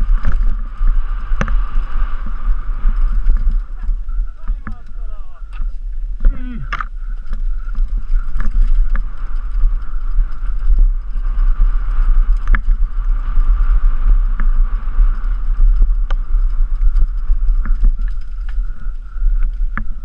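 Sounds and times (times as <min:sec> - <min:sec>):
bike rattling over dirt: 0:00.0 - 0:20.0
wind buffeting microphone: 0:00.0 - 0:20.0.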